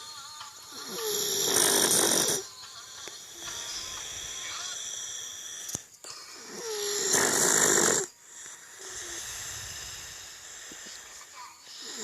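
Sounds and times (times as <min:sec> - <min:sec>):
person snoring: 0:00.7 - 0:12.0.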